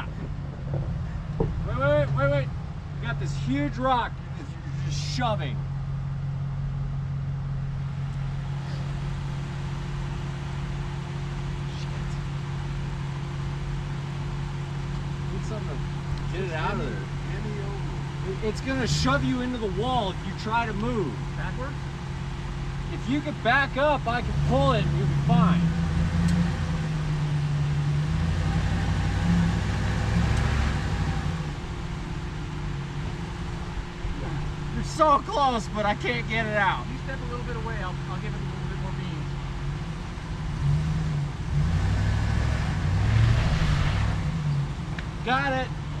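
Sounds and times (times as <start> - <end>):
pickup engine idling: 0.0 - 43.1, 44.2 - 46.0.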